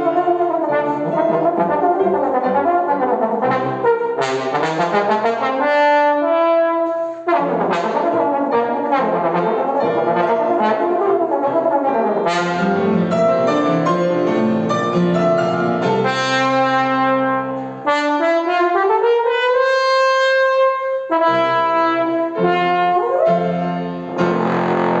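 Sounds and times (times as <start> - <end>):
brass instrument melody: 0.0 - 25.0.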